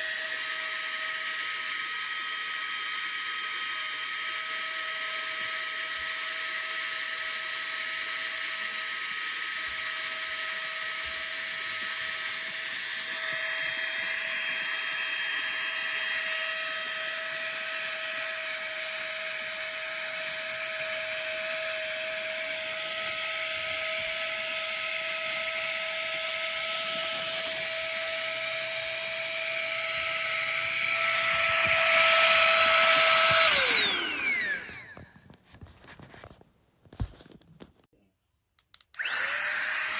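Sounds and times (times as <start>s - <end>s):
electric air pump whining: 0.0s - 37.4s, 39.0s - 39.9s.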